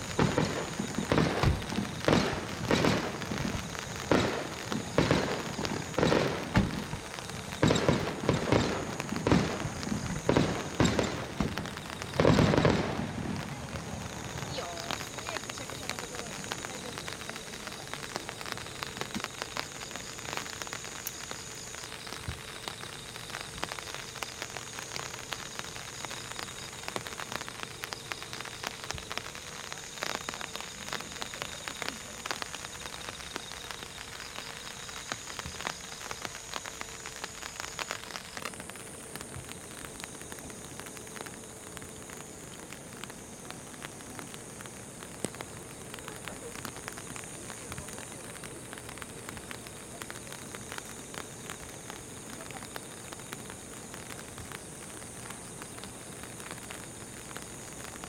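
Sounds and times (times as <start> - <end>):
rain falling on an umbrella: 0.0 - 58.0.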